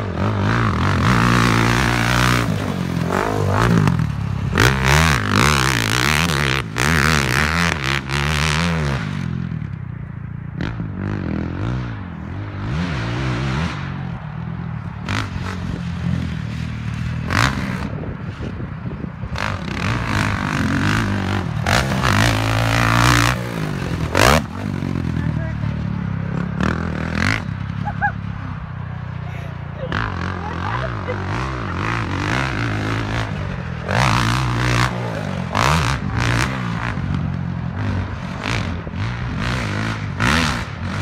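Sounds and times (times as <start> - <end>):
quad engine revving: 0.0 - 9.6, 10.6 - 14.0, 15.0 - 18.6, 19.2 - 41.0.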